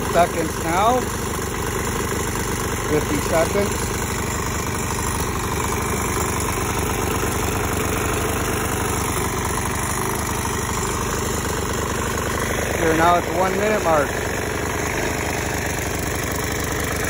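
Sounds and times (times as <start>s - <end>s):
engine knocking: 0.0s - 17.0s
lawn mower engine idling: 0.0s - 17.0s.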